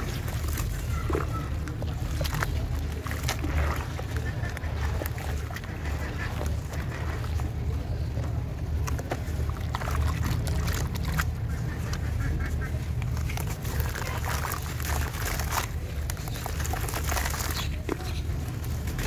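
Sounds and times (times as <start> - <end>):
cement crackling and fizzing: 0.0 - 11.4, 13.0 - 19.0
hands splashing water: 0.0 - 19.0.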